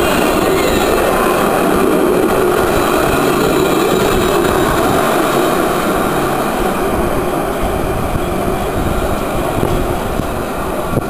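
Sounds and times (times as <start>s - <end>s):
tram wheels rolling on rails: 0.0s - 11.0s.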